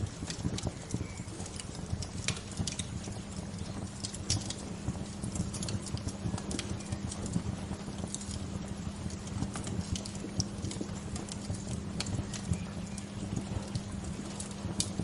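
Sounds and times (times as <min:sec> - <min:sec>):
bonfire crackling and popping: 0:00.0 - 0:15.0
low fire rumble: 0:00.0 - 0:15.0.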